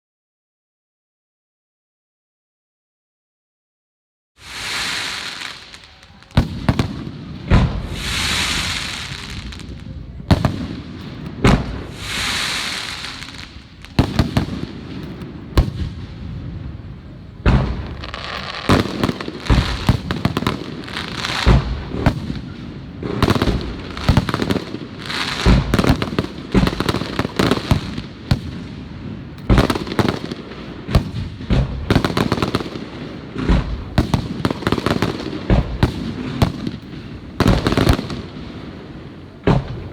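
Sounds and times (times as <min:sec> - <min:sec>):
fireworks hissing: 0:04.4 - 0:39.9.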